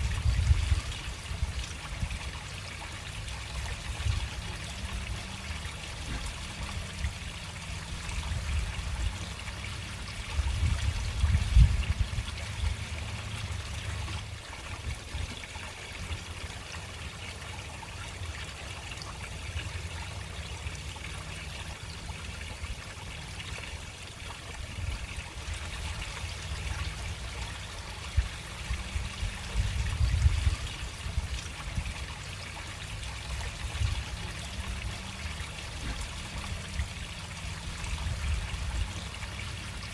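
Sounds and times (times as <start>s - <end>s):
water trickling into drain: 0.0s - 39.9s.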